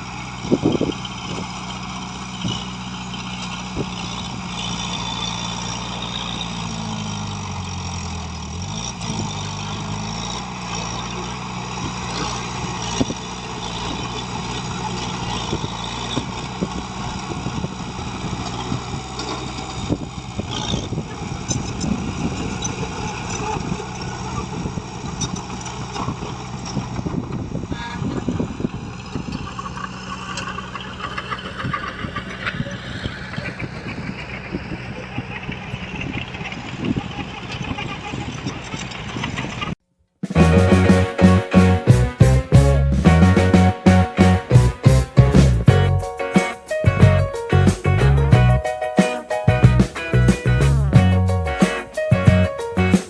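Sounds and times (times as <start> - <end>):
heavy diesel engine running: 0.0 - 39.2, 40.2 - 46.2, 46.9 - 48.7, 49.5 - 53.0.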